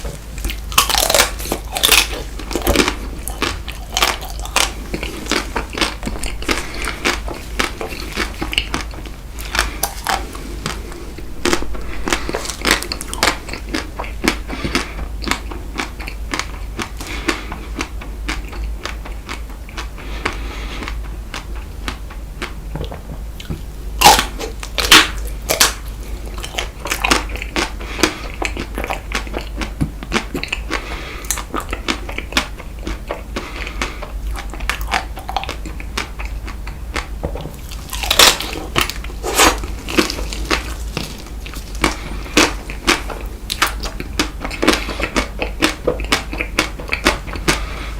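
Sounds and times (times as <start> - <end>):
crunchy biting and chewing: 0.0 - 47.9.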